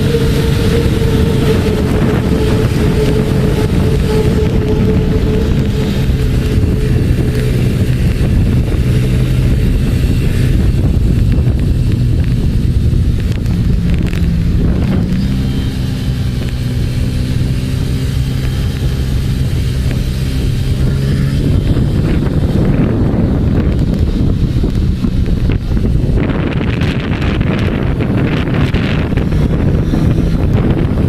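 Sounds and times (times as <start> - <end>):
motorcycle engine running: 0.0 - 31.0
wind on microphone: 0.0 - 31.0.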